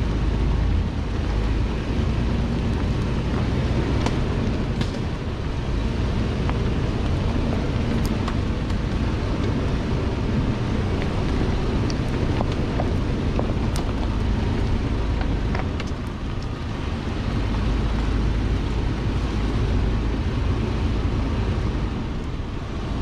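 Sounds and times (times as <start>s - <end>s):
vehicle engine and tyre noise: 0.0s - 23.0s
wind buffeting microphone: 0.0s - 23.0s.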